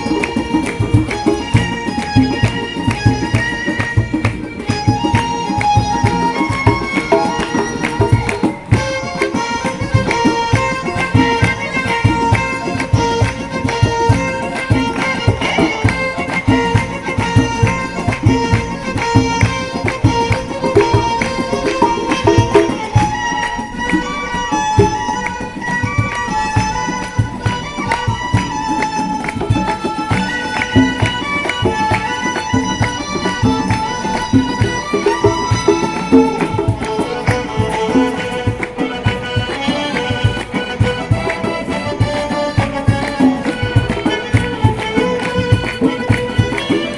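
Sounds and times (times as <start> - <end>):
fast drum beat: 0.0 - 23.2, 29.3 - 46.9
lively traditional music: 0.0 - 46.9.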